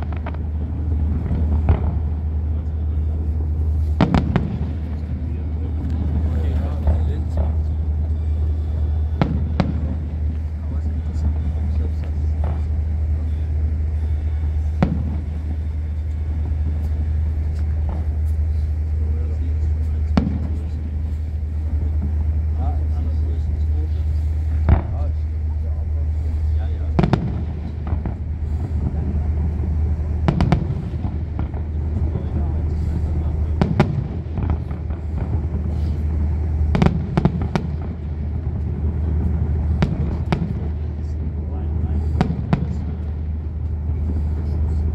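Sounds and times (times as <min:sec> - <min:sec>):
firework bang: 0:00.0 - 0:44.9
steady low rumble: 0:00.0 - 0:44.9.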